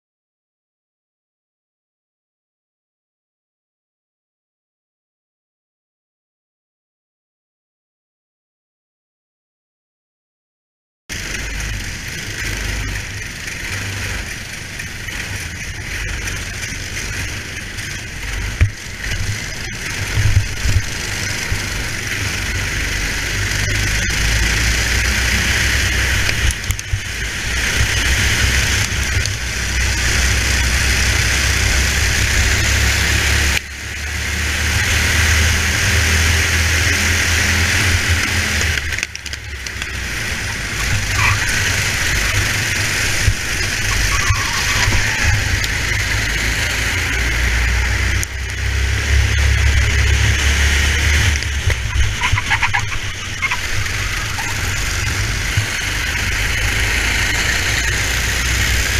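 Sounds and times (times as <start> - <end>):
racing kart engines: 11.1 - 58.9.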